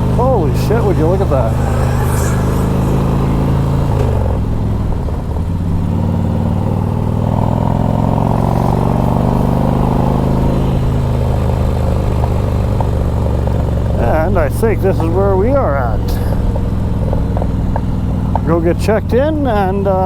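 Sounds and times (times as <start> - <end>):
motorcycle engine with loud exhaust: 0.0 - 20.0.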